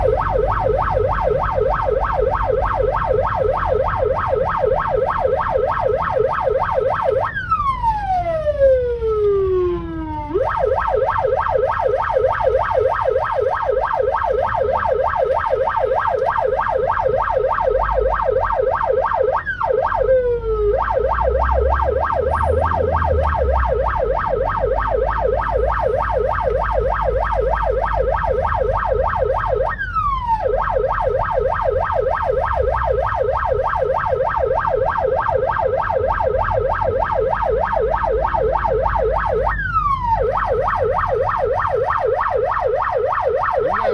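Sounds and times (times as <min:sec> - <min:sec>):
ambulance siren: 0:00.0 - 0:43.9
low vehicle rumble: 0:00.0 - 0:43.9.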